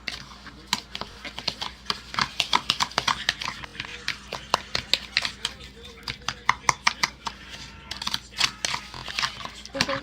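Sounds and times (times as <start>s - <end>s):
hard objects clicking and tapping: 0.0s - 10.0s.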